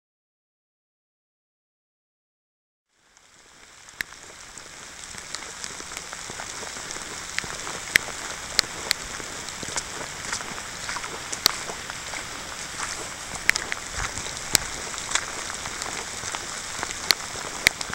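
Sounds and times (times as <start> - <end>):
raindrops ticking close by: 2.9 - 17.9
steady rain hiss: 2.9 - 17.9.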